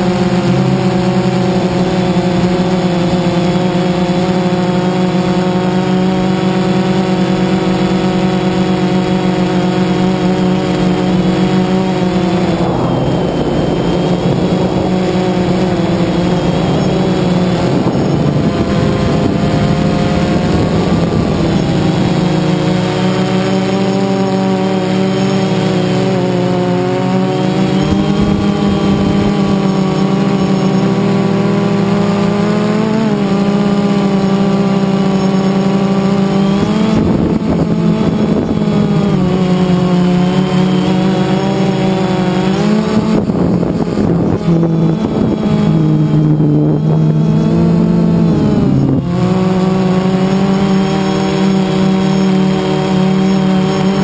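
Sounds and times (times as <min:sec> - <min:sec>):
rushes of air noise: 0:00.0 - 0:34.6, 0:36.0 - 0:54.0
drone motors and propellers humming: 0:00.0 - 0:54.0.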